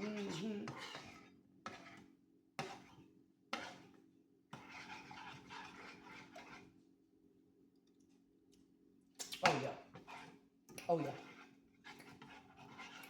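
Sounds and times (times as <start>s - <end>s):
spoon scraping a pan: 0.0s - 6.8s, 9.3s - 13.0s.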